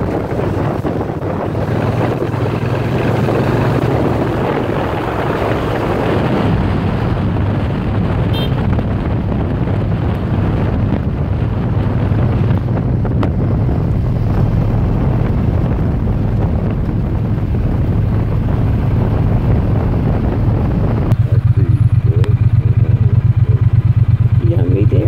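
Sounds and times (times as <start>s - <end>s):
motorcycle engine cruising: 0.0s - 25.0s
wind noise on microphone: 0.0s - 25.0s.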